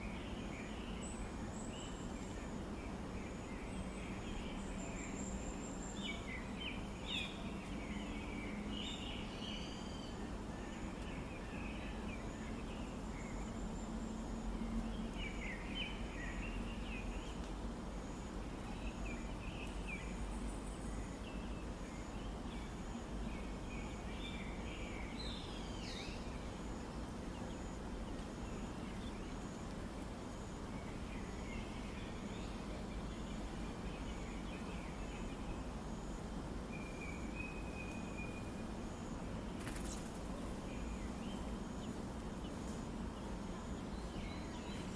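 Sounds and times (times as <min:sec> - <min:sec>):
low hum and hiss: 0:00.0 - 0:44.9.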